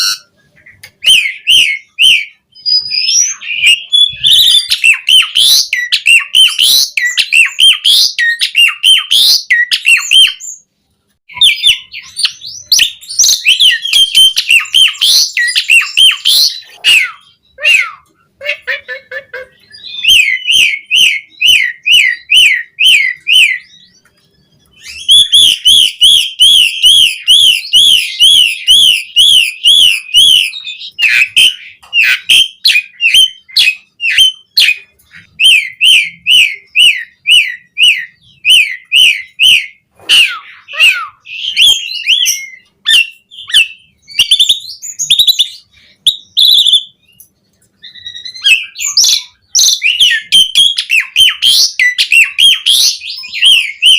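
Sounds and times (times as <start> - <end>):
starling singing: 0.0 - 10.7, 11.3 - 53.9.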